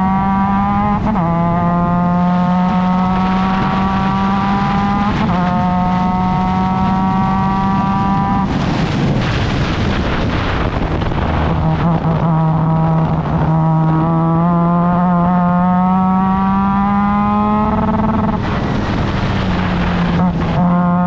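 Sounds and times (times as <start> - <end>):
race car engine pulling hard: 0.0 - 21.0.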